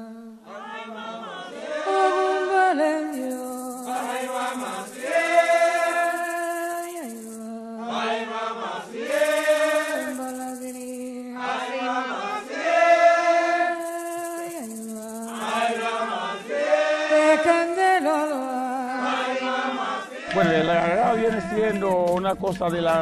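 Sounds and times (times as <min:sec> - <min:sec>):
group chanting held notes: 0:00.2 - 0:22.1.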